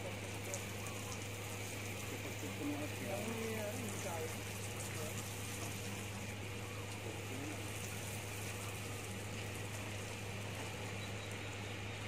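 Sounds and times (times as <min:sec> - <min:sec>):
pump humming: 0:00.0 - 0:12.0
sprinklers hissing: 0:00.0 - 0:12.0.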